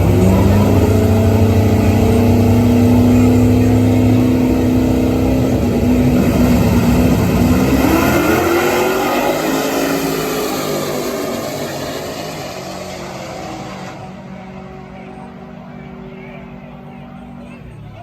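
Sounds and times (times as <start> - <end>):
drag race car engine running: 0.0 - 18.0.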